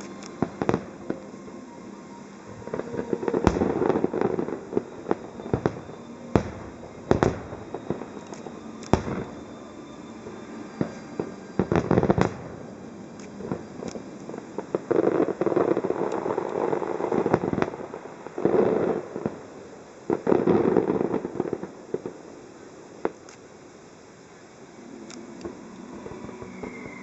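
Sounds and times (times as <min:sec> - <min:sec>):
fireworks bangs: 0:00.0 - 0:23.3, 0:24.8 - 0:27.0
fireworks crackling: 0:00.0 - 0:27.0.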